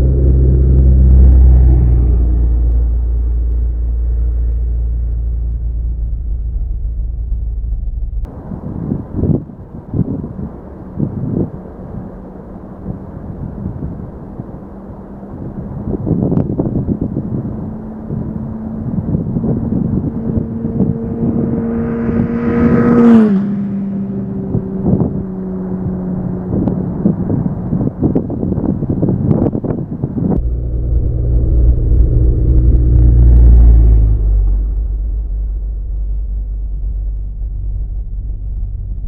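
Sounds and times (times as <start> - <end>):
vehicle engine passing by: 0.0 - 39.0
wind and road noise: 0.0 - 39.0.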